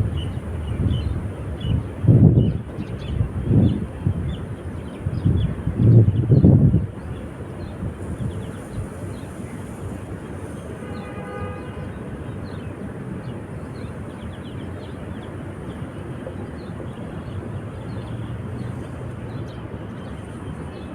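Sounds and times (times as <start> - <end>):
steady rushing noise: 0.0 - 20.9.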